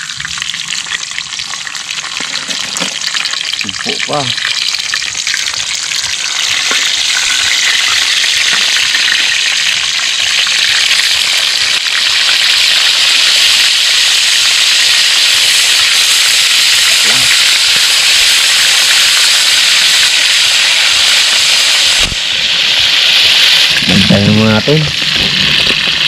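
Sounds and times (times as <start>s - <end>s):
fish sizzling in oil: 0.0s - 26.0s.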